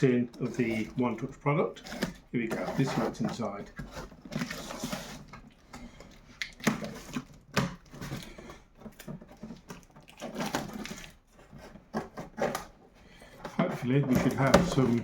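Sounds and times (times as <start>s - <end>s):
cardboard packaging rustling: 0.0s - 15.0s.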